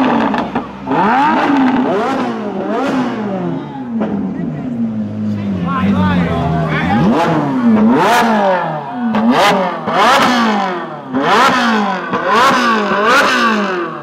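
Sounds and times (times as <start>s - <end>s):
sports car engine revving: 0.0s - 14.0s.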